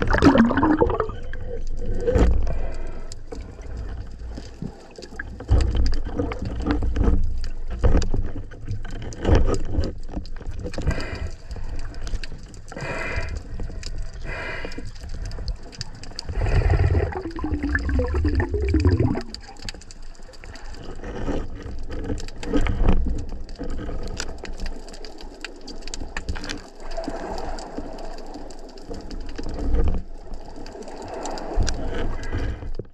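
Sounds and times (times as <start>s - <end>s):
water sloshing and bubbling: 0.0s - 32.9s.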